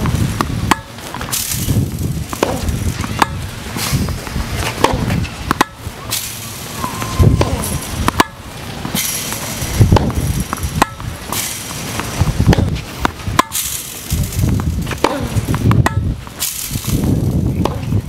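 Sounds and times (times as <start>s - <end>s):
tennis ball hit and bouncing: 0.0s - 18.0s.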